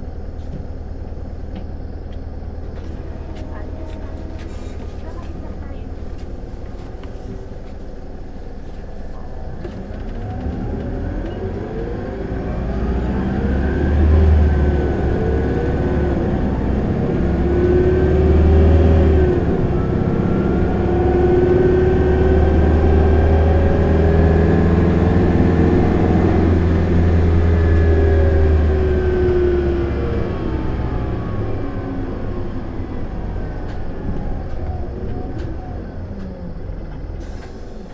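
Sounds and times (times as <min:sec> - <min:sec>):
bus diesel engine revving: 0:00.0 - 0:37.9.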